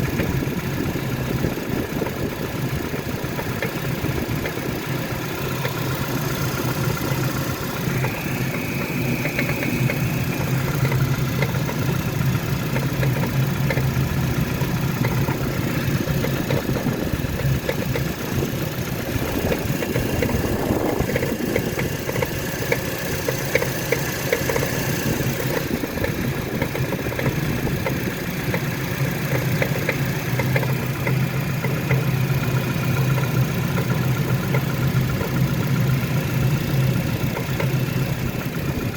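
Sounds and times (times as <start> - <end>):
car engine idling: 0.0 - 38.9
light ticking under bonnet: 0.0 - 38.9.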